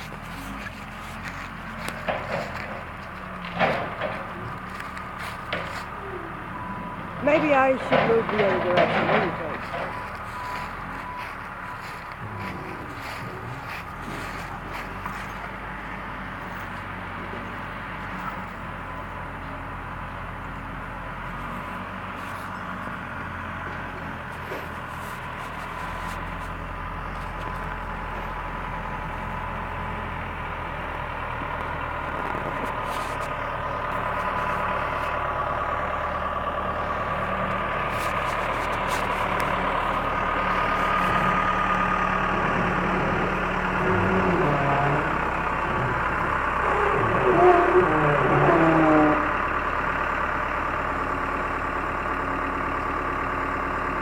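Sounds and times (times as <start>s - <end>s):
backhoe engine running: 0.0s - 54.0s.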